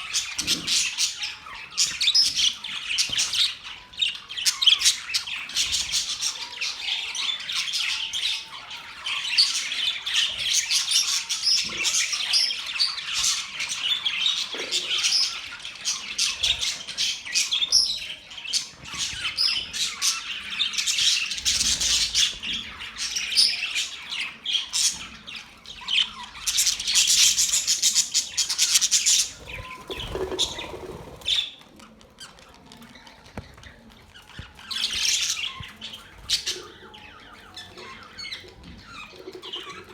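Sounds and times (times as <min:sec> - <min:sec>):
pet birds chirping: 0:00.0 - 0:39.9.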